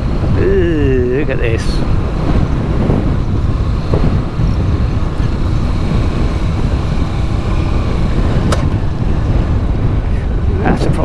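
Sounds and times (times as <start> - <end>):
motorbike engine rumbling: 0.0 - 11.0.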